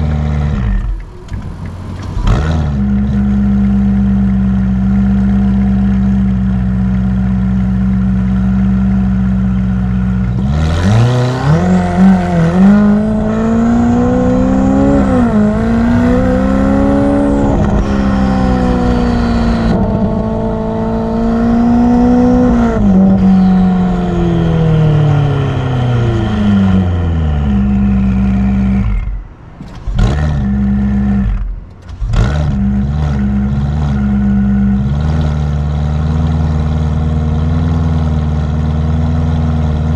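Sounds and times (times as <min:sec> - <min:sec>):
exhaust cracks: 0:00.0 - 0:38.5
sports car engine revving: 0:00.0 - 0:39.9.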